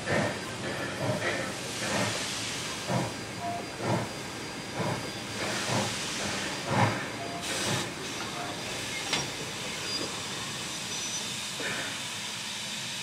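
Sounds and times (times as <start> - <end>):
steam hissing: 0.0 - 13.0
steam locomotive chuffing: 0.0 - 13.0.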